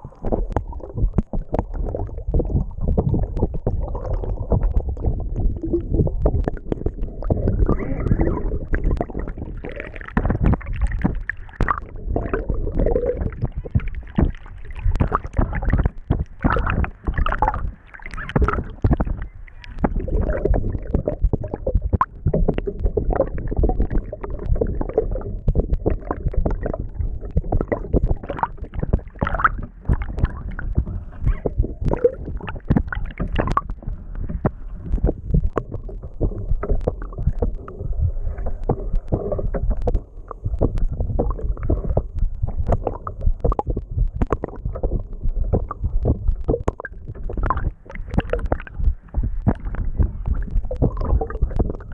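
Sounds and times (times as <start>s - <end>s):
knocks and sloshes: 0.0s - 51.9s
water rushing and gurgling: 0.0s - 51.9s.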